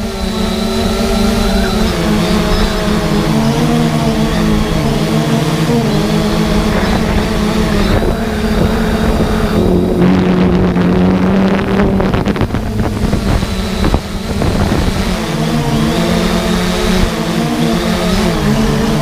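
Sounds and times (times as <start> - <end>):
quadcopter propellers humming: 0.0 - 19.0
wind noise on microphone: 0.0 - 19.0.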